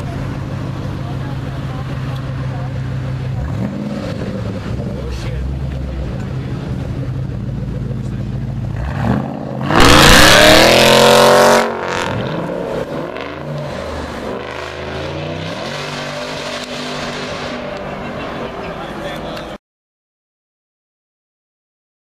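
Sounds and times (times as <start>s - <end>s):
car engine idling and revving: 0.0s - 19.6s.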